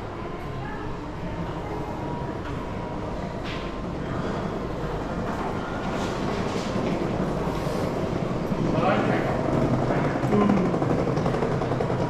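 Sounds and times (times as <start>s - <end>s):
train wheels rumbling on rails: 0.9s - 12.0s.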